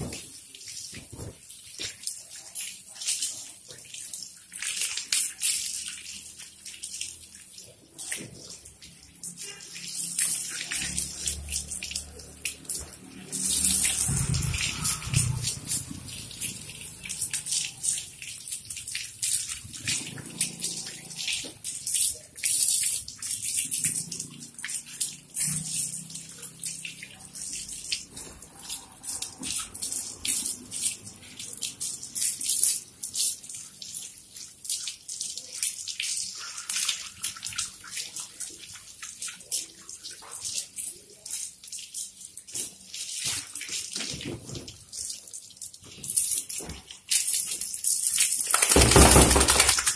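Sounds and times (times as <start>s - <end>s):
hose water splashing: 0.0s - 49.9s.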